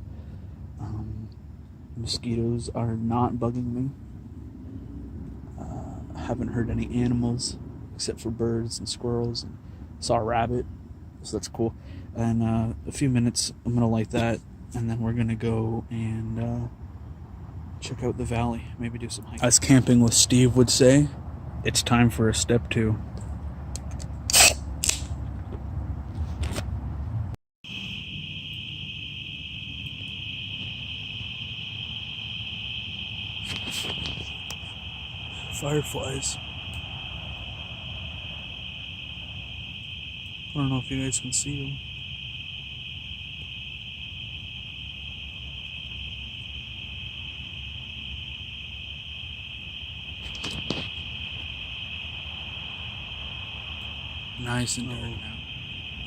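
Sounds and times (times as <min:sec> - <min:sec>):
crickets trilling: 0:00.0 - 0:09.4, 0:10.0 - 0:23.0, 0:27.6 - 0:56.0.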